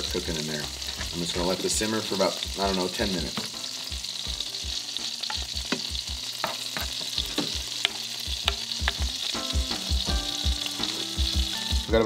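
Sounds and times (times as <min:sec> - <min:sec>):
sauce sizzling with small pops: 0:00.0 - 0:11.9.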